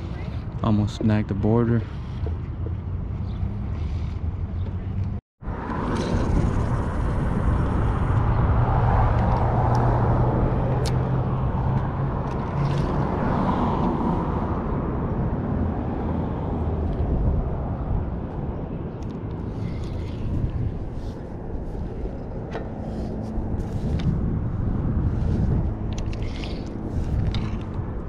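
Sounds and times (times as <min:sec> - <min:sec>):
traffic rushing over bridge: 0:00.0 - 0:28.0.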